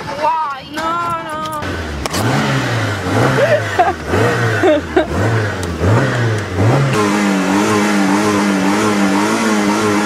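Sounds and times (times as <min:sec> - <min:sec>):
car engine revving: 0:01.2 - 0:10.0.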